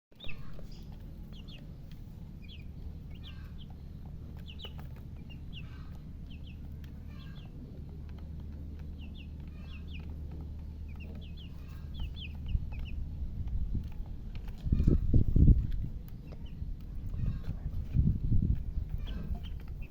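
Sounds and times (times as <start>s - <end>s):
chicks peeping: 0.1s - 19.9s
steady low hum: 0.1s - 19.9s.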